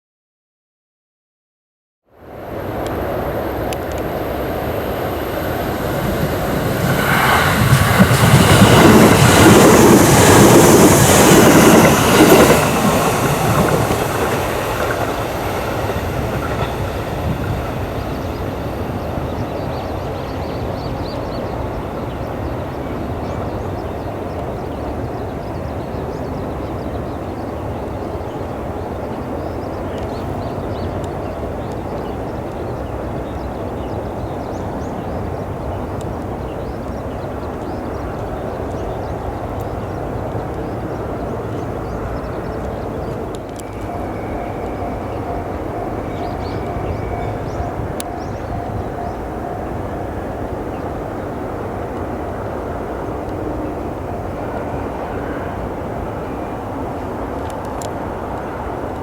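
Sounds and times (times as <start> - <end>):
electric train passing: 2.1 - 59.0.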